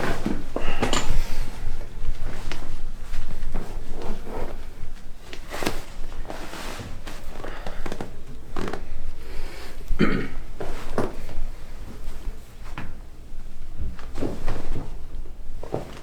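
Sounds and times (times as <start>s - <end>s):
rustling on treatment table: 0.0s - 16.0s.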